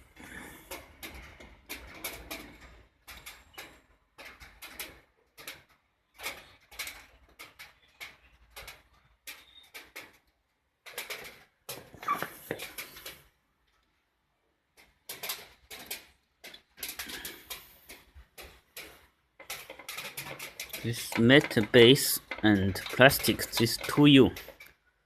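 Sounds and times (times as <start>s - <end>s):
metal panels clicking and clattering: 0.1s - 13.4s, 14.5s - 25.0s.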